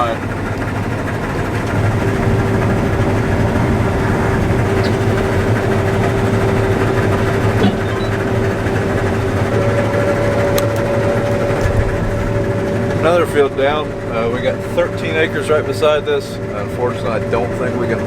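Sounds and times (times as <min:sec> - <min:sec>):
combine harvester engine drone: 0:00.0 - 0:18.0
steady whine: 0:00.0 - 0:18.0
higher whine: 0:00.9 - 0:18.0.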